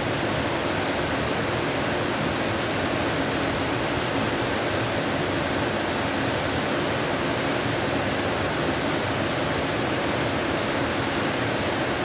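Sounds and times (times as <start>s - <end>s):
heavy rain on trees: 0.0s - 12.0s.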